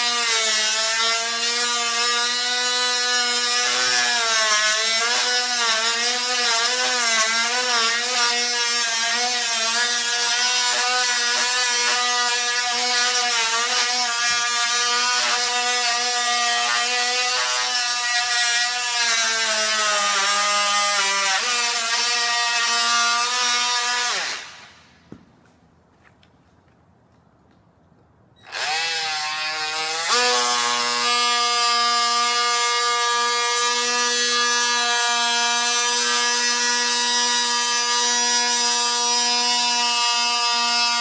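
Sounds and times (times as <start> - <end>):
oscillating multi-tool cutting wood: 0.0 - 24.9, 28.4 - 41.0.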